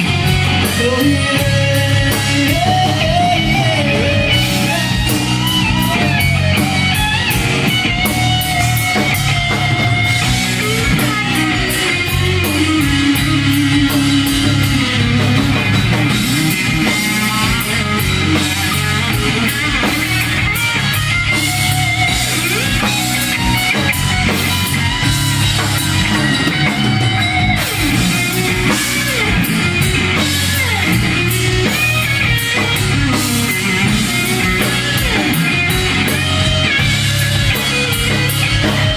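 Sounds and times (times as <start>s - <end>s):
bass guitar: 0.0s - 38.9s
drum kit beat: 0.0s - 38.9s
electric lead guitar bending notes: 0.0s - 38.9s.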